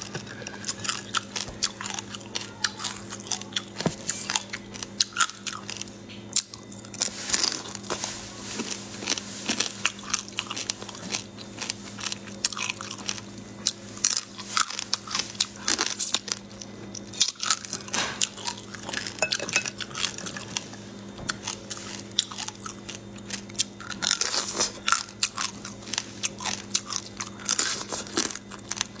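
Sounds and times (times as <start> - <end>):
chewing crunchy shrimp shells: 0.0 - 29.0.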